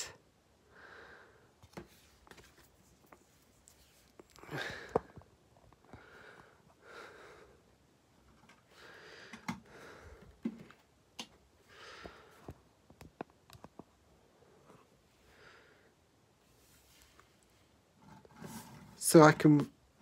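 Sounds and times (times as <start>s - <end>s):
soft breaths: 0.0s - 10.8s, 11.6s - 12.7s, 14.1s - 19.0s.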